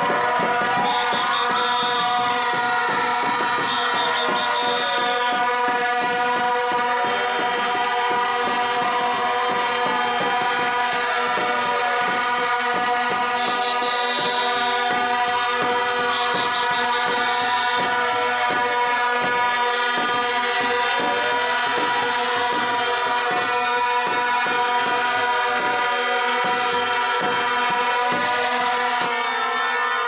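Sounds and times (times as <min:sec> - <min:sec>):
irregular drum beats: 0:00.0 - 0:29.7.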